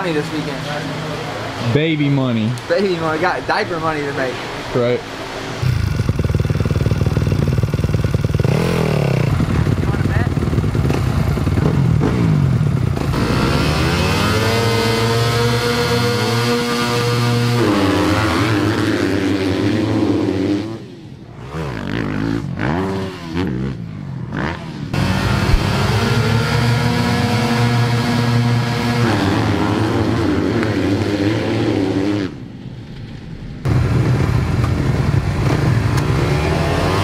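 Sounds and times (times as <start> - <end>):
motocross bikes revving: 0.0 - 32.5, 33.6 - 37.0
motorbikes accelerating away: 0.0 - 32.5, 33.6 - 37.0.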